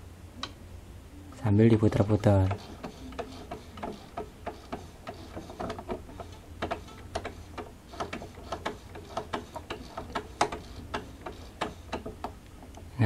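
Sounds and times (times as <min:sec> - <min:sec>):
sewing machine mechanism clicking: 0:01.9 - 0:12.9.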